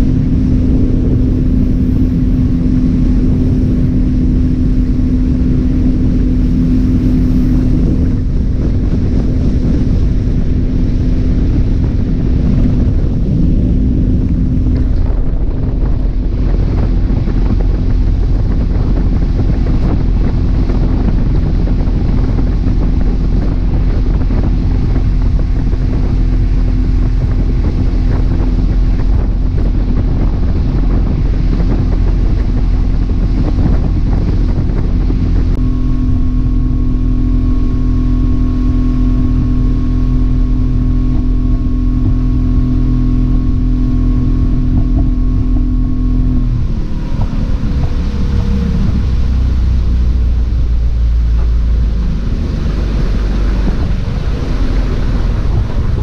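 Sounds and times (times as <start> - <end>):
boat engine running: 0.0 - 56.0
wind and water rushing: 0.0 - 56.0.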